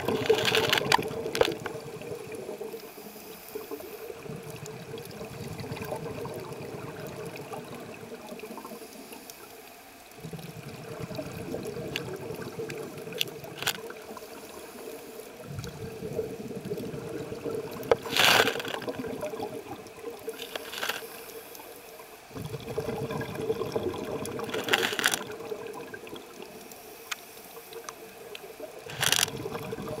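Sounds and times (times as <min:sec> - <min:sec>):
regulator bubbles gurgling underwater: 0:00.0 - 0:30.0.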